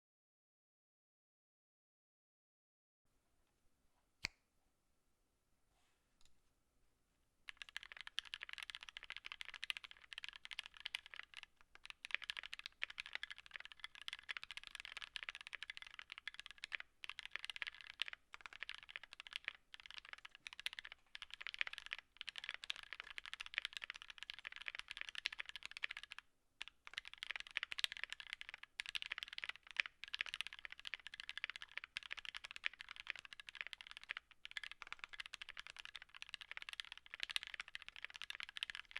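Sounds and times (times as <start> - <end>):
fast mechanical keyboard typing: 7.5 - 38.9.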